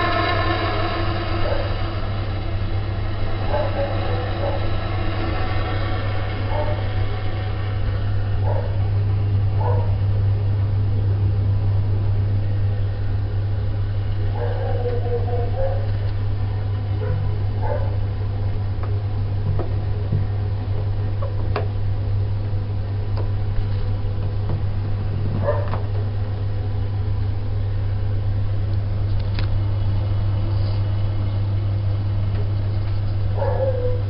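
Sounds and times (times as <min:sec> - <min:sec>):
boiler droning: 0:00.0 - 0:34.0.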